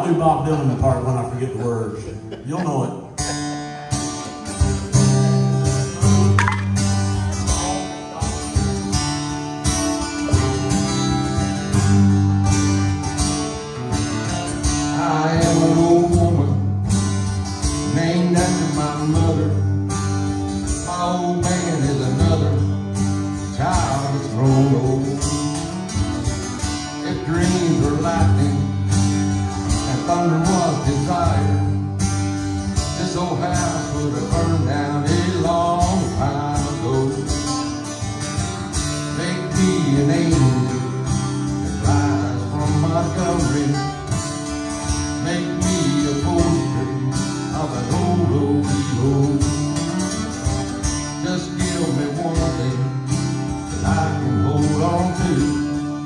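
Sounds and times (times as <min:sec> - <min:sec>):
acoustic guitars strumming: 0:00.0 - 0:56.0.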